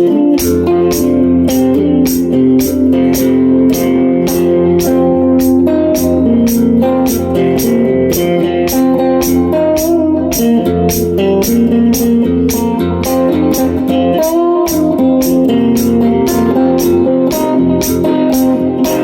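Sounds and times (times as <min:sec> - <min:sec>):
guitar melody: 0:00.0 - 0:19.0
high ticking beat: 0:00.0 - 0:19.0
steady bass line: 0:00.0 - 0:19.0.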